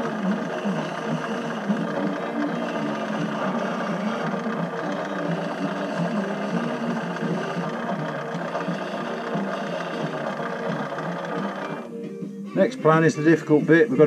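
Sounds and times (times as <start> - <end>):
lathe motor whirring: 0.0 - 12.6.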